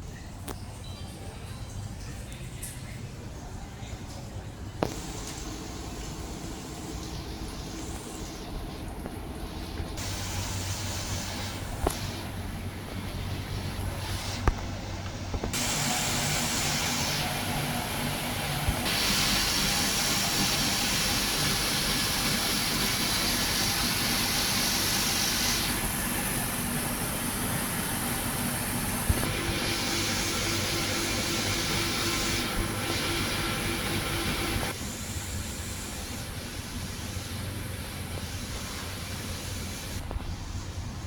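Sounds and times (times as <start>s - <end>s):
air conditioner fan whooshing: 4.8s - 41.0s.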